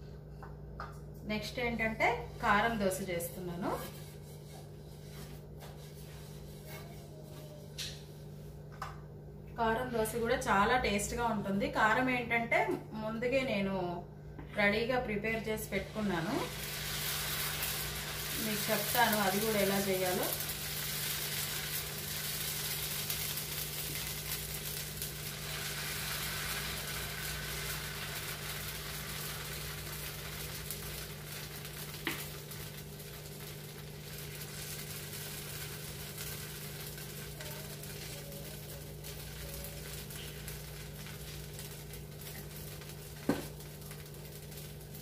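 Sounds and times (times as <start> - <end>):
steady low hum: 0.0 - 45.0
batter sizzling on a hot pan: 2.2 - 8.6, 15.2 - 45.0.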